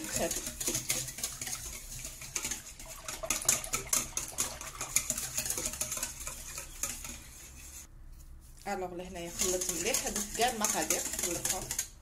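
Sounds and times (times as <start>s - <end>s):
whisk beating batter in metal bowl: 0.0s - 7.9s, 8.7s - 12.0s.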